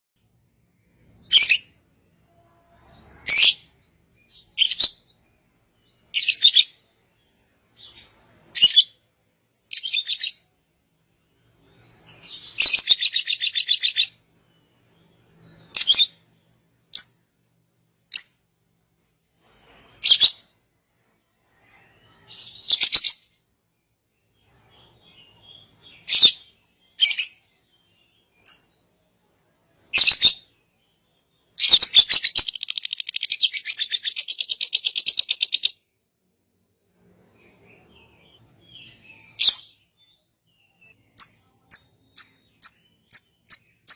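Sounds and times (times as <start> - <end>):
songbird singing: 0.2 - 36.0, 37.0 - 43.9.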